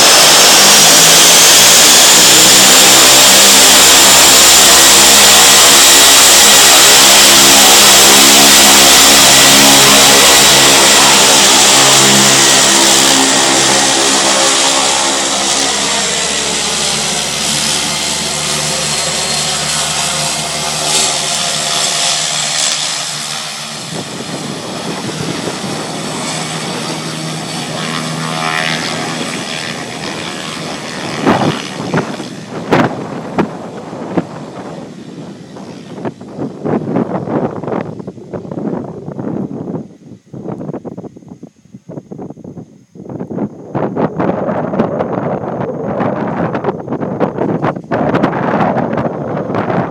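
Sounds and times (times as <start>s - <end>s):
turboprop engine and propeller: 0.0s - 49.9s.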